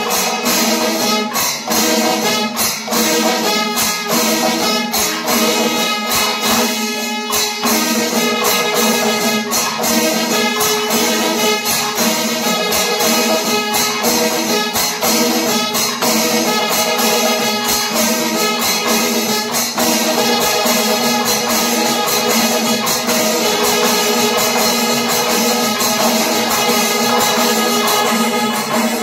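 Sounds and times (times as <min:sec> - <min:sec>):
clashing cymbals: 0:00.0 - 0:29.0
rapid drum strokes: 0:00.0 - 0:29.0.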